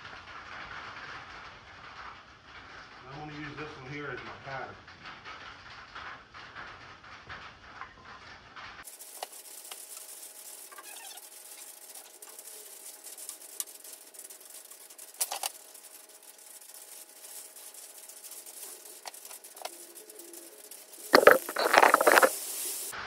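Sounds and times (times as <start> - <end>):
rain pattering on metal roof: 0.0 - 23.0.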